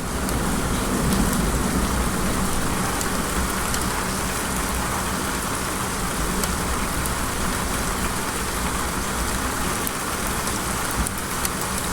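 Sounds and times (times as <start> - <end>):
rain falling: 0.0 - 11.9.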